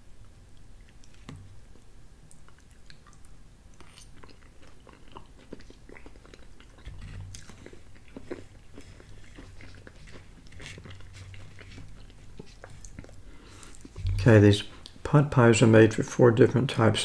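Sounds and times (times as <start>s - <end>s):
man chewing: 0.2s - 15.0s.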